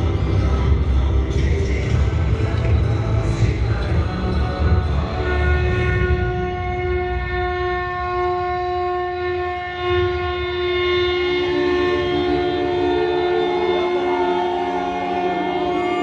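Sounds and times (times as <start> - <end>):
horns holding long notes: 0.0 - 16.0.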